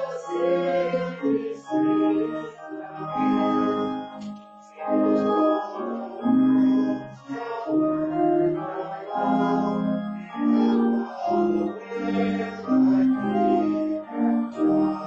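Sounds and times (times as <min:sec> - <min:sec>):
organ playing hymn chords: 0:00.0 - 0:15.0.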